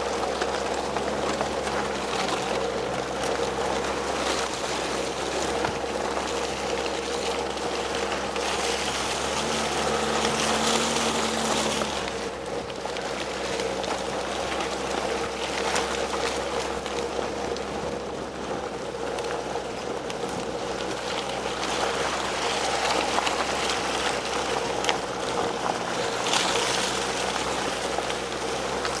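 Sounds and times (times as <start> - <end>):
car engine running: 0.0 - 29.0
tyres splashing through mud: 0.0 - 29.0.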